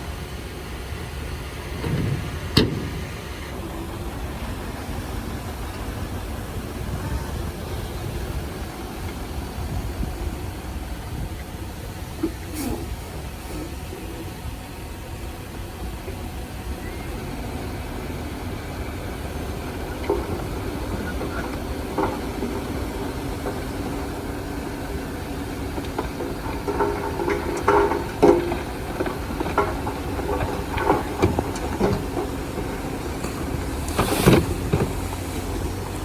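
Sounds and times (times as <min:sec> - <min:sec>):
bulldozer diesel engine: 0:00.0 - 0:36.0.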